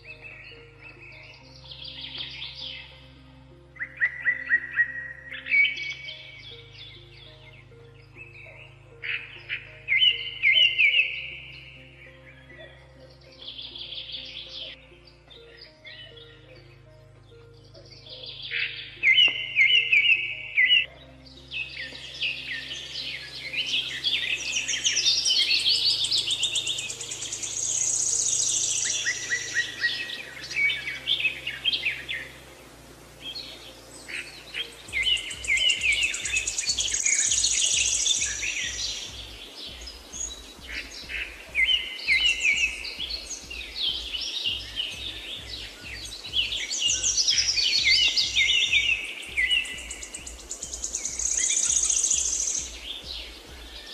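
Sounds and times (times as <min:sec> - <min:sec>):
soft low background music: 0:00.0 - 0:53.9
songbirds chirping and singing: 0:00.0 - 0:53.9.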